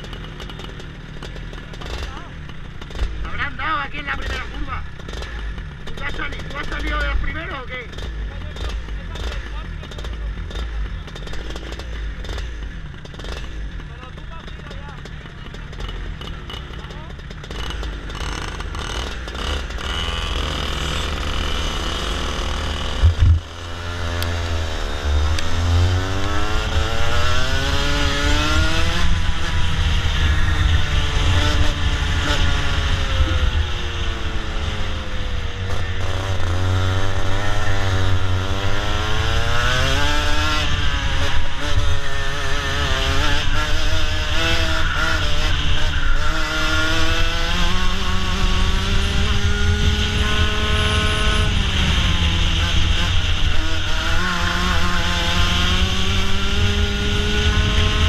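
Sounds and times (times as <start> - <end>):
racing kart engine accelerating: 0.0 - 58.0
wind and vibration rumble: 0.0 - 58.0.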